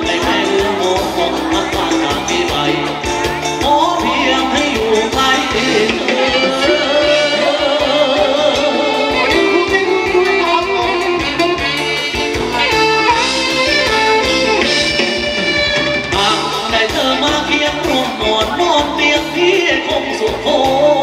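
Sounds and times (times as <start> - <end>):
person singing: 0.0 - 15.0, 15.8 - 21.0
live band dance music: 0.0 - 21.0.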